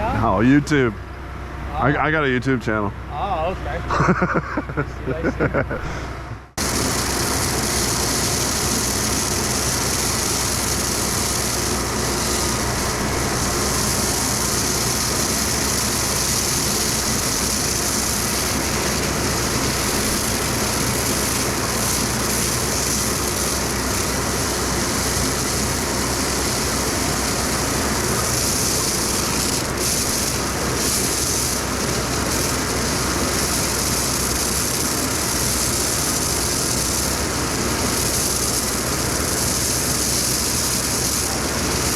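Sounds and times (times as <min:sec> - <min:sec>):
diesel engine drone: 0:00.0 - 0:41.9
loud even hiss: 0:05.7 - 0:41.9.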